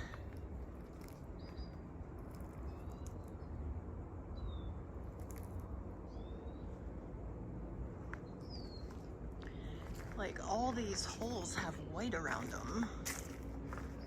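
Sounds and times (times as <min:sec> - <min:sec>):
small birds chirping: 0:00.0 - 0:07.2, 0:08.0 - 0:14.0
steady low rumble: 0:00.0 - 0:14.0.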